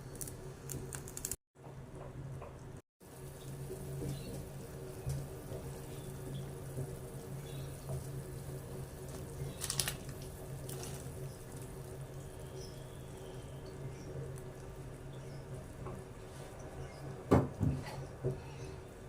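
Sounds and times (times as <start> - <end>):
water running at a sink: 3.0 - 19.0.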